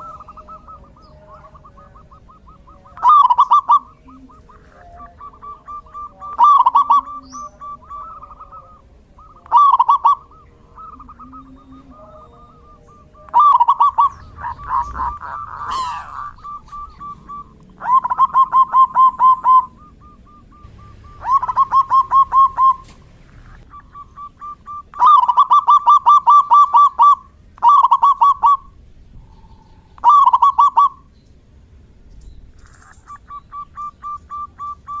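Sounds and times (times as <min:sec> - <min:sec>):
doves cooing rapidly: 0:00.0 - 0:31.1, 0:32.5 - 0:35.0
faint steady dove notes: 0:00.0 - 0:35.0.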